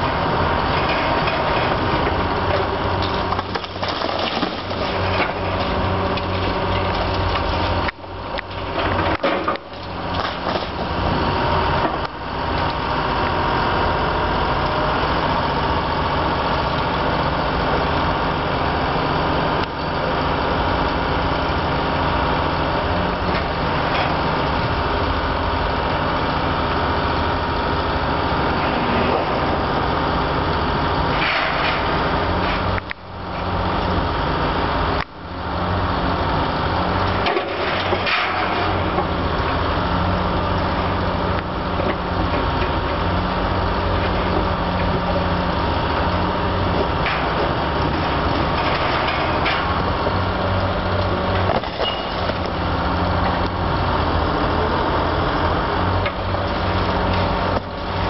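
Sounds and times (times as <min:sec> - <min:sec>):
crane diesel engine running: 0:00.0 - 0:58.0.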